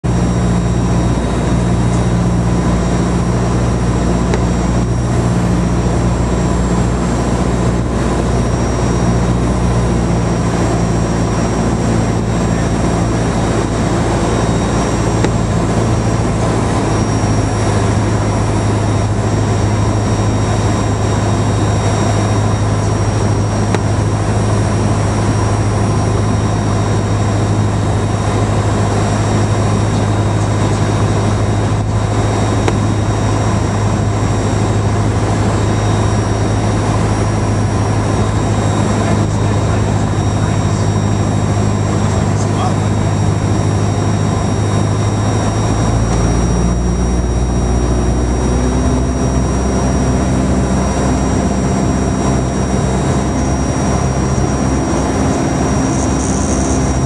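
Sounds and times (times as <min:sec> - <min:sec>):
airplane engine and propeller drone: 0:00.0 - 0:57.0.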